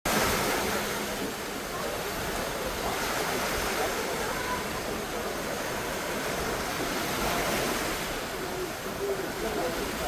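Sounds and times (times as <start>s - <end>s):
sea waves washing ashore: 0.1s - 10.0s.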